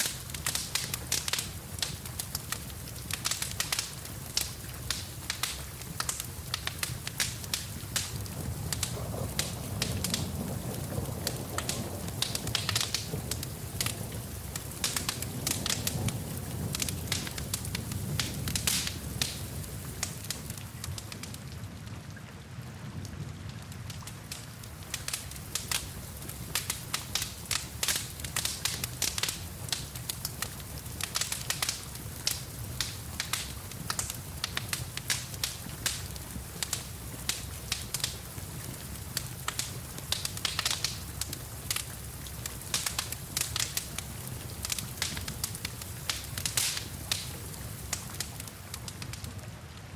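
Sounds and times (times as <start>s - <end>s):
rain: 0.0s - 49.9s
wood fire crackling and popping: 0.0s - 49.9s.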